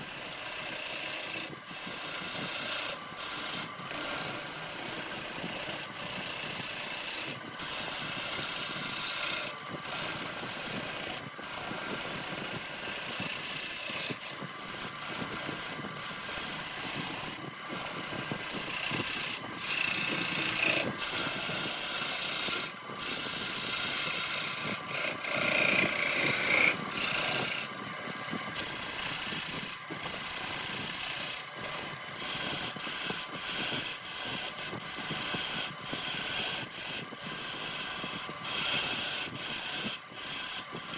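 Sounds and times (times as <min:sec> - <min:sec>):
hand tool scraping spinning wood: 0:00.0 - 0:40.9
wood lathe running: 0:00.0 - 0:40.9.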